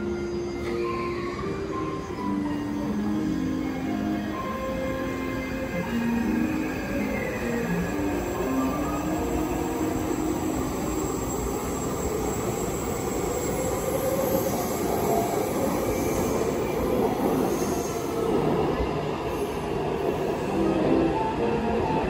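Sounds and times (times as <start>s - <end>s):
train rumble in tunnel: 0.0s - 22.0s.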